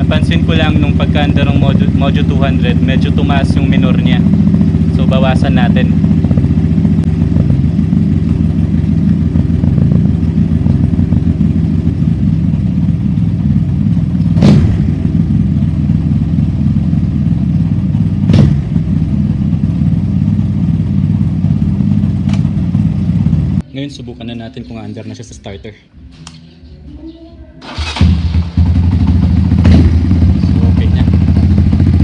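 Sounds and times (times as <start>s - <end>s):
motorcycle engine idling: 0.0s - 25.7s, 27.6s - 32.0s.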